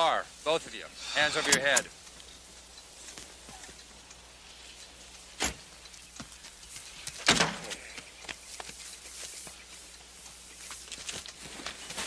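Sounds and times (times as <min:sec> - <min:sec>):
light scuffs and clicks: 0:01.5 - 0:12.0.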